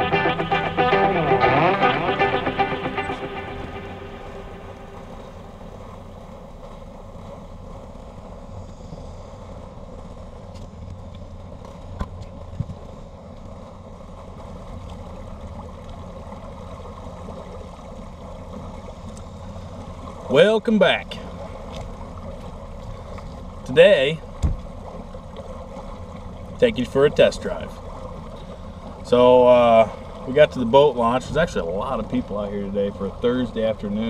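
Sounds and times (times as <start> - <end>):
outboard motor idling: 0.0 - 34.0
water noise: 0.0 - 34.0.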